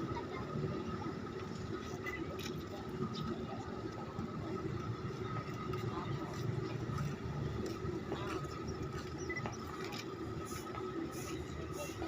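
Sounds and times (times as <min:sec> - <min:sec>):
low engine rumble: 0:00.0 - 0:12.0
thin steady whine: 0:00.0 - 0:12.0.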